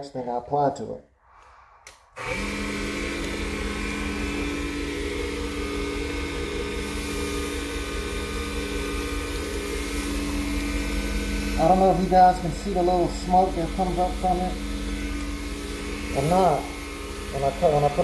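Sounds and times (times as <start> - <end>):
wood lathe humming and whining: 2.2 - 18.0.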